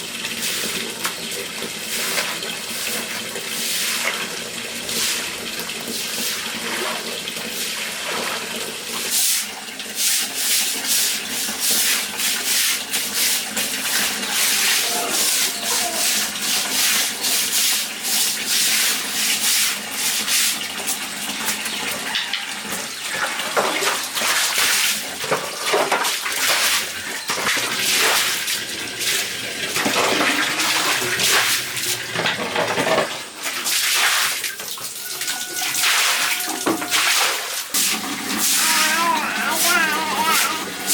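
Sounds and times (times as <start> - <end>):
water splashing and sloshing: 0.0 - 40.9.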